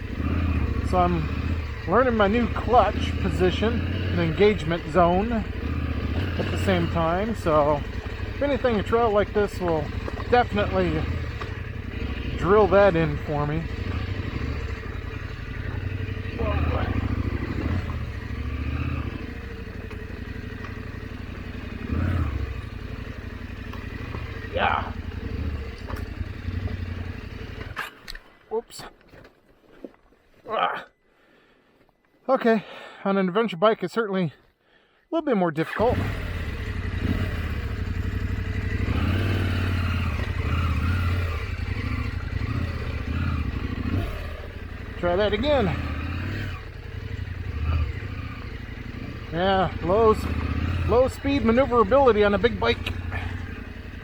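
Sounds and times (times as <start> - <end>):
motorcycle engine revving: 0.0 - 28.2, 35.7 - 54.0.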